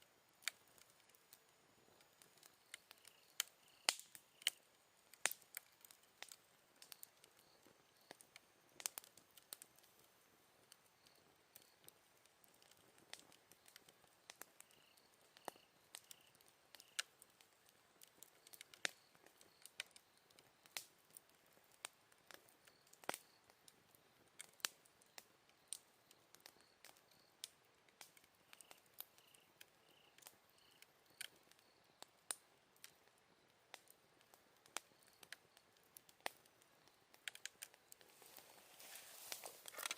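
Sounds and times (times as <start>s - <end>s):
faint insects chirping: 0.0s - 39.9s
campfire crackling and popping: 0.1s - 39.9s.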